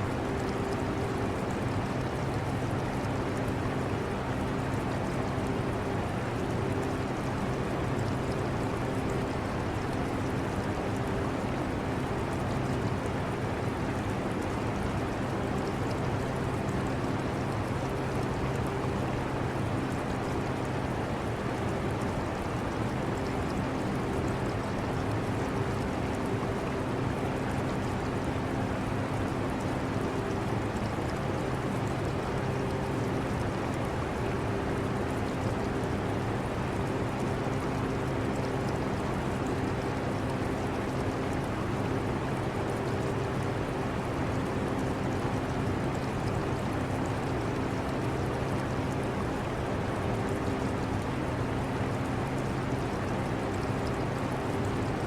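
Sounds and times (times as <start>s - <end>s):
aquarium water gurgling: 0.0s - 55.0s.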